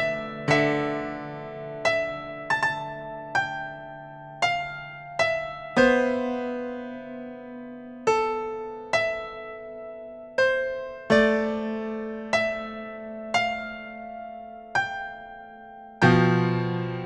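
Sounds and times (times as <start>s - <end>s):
slow soft piano music: 0.0s - 17.0s.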